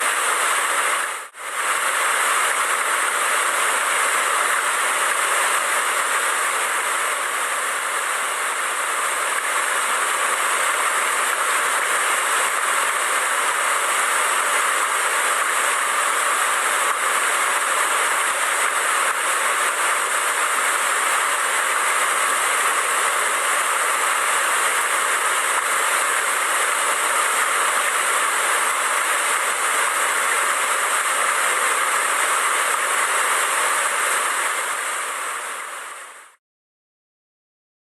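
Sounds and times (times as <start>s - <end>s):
waterfall rushing: 0.0s - 36.3s.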